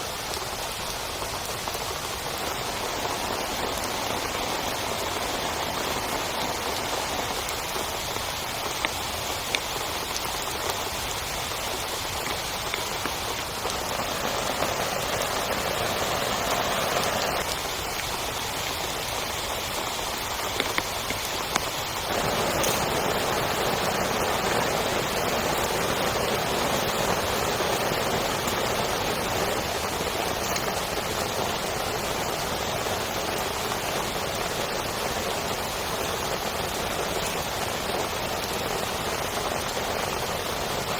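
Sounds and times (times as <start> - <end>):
heavy rain on a tent: 0.0 - 40.9
ticks of single raindrops: 0.1 - 40.9.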